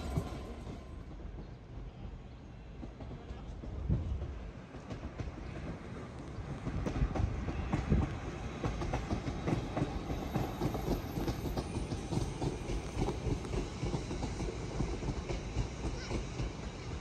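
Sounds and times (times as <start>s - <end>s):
train wheels clattering: 0.0s - 1.8s, 2.7s - 17.0s.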